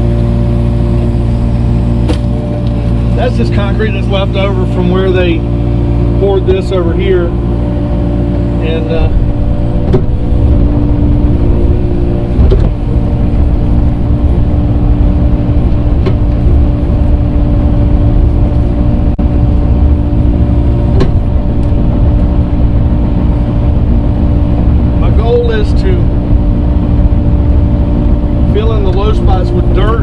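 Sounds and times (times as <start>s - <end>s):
earthmoving machine engine running: 0.0s - 30.0s.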